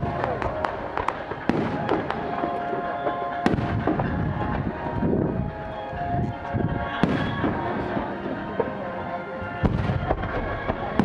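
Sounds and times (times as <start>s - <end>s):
aerial fireworks bursting: 0.0s - 5.9s, 6.7s - 8.8s, 9.5s - 11.0s
music with held tones: 0.0s - 11.0s.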